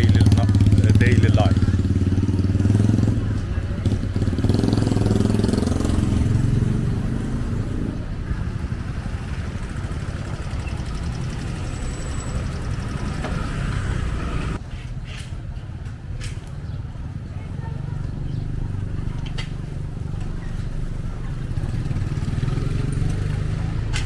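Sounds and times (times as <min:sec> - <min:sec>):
engine running close by: 0:00.0 - 0:14.6, 0:16.6 - 0:24.0
street noise: 0:00.0 - 0:24.0.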